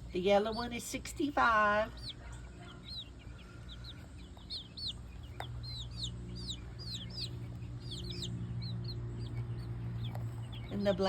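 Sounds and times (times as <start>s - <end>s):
chicks peeping: 0.0s - 11.0s
low steady hum: 0.0s - 11.0s.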